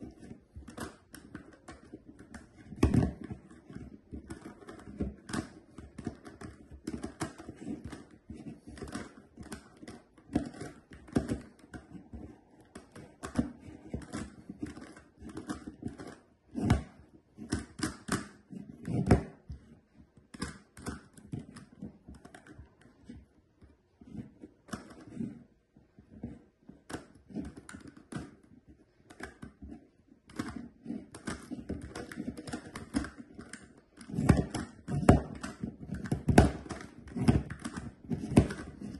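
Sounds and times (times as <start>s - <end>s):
plastic puzzle clicking and clacking: 0.0s - 38.9s.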